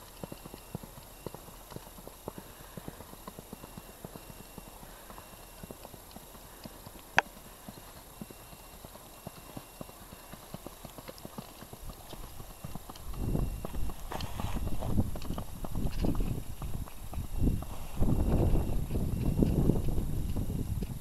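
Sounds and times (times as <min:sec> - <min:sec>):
horse hoofbeats cantering on grass: 0:00.0 - 0:21.0.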